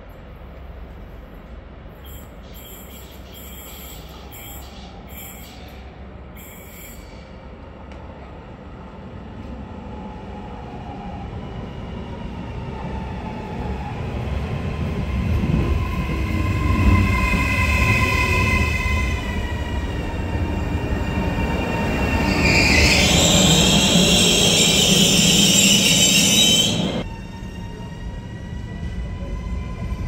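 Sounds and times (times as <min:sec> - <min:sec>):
electric train rumble: 0:00.0 - 0:30.0
high train whine: 0:00.0 - 0:30.0.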